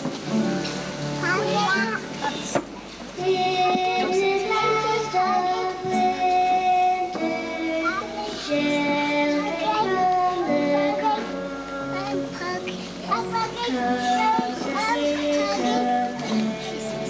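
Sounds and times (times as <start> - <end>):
children singing: 3.2 - 17.0.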